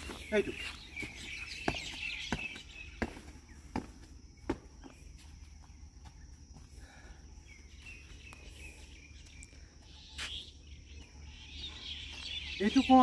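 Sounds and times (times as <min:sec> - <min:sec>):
birds chirping: 0:00.0 - 0:13.0
footsteps on dirt: 0:00.0 - 0:13.0
high insect drone: 0:00.0 - 0:13.0.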